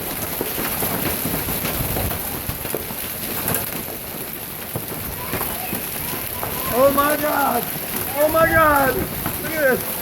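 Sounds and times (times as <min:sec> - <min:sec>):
hail and rain pelting: 0:00.0 - 0:10.0.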